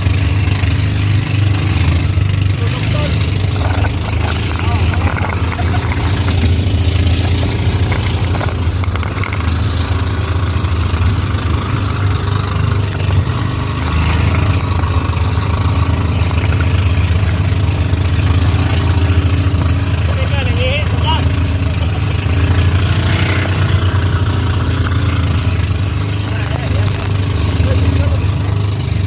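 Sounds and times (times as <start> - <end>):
boat engine drone: 0.0 - 29.0.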